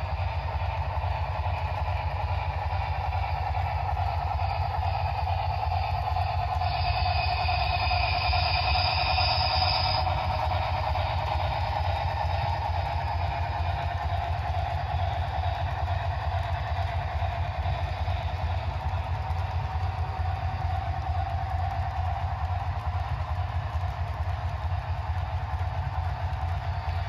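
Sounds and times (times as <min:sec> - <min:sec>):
model train humming and rumbling: 0:00.0 - 0:27.0.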